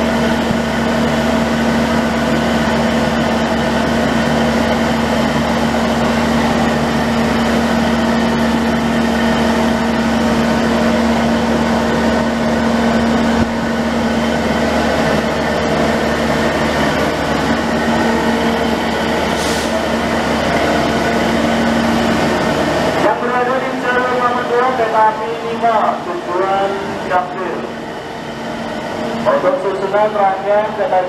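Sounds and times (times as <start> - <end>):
diesel train idling: 0.0 - 31.0.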